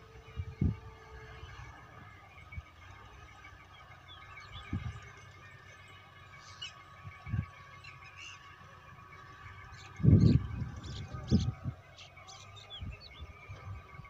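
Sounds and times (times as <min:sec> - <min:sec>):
faint high bird chirps: 0:00.0 - 0:14.0
steady distant hum: 0:00.0 - 0:14.0.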